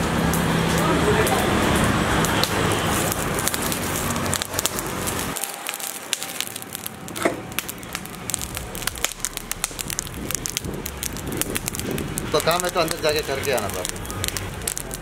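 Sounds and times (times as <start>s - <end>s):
charcoal crackling and popping: 0.0s - 15.0s.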